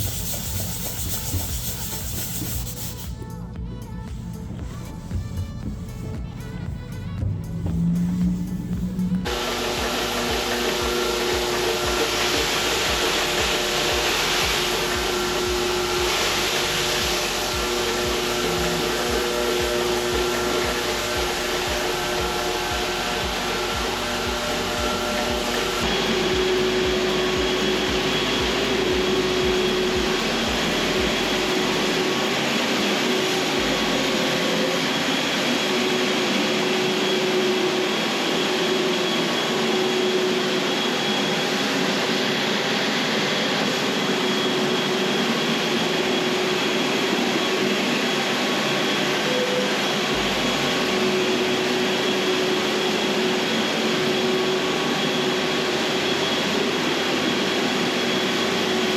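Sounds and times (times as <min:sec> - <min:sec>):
floor machine droning: 0:00.0 - 0:58.9.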